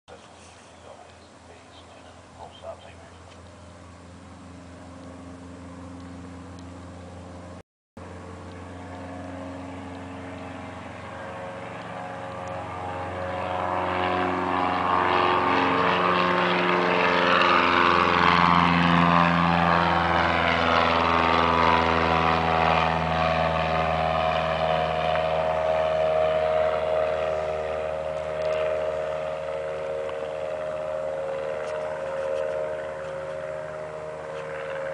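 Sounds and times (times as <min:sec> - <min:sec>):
airplane engine and propeller: 0:00.1 - 0:34.9.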